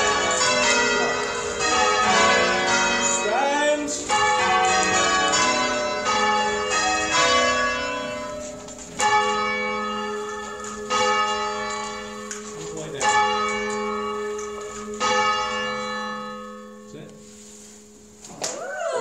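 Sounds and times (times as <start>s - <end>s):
church bells ringing: 0.0s - 18.2s.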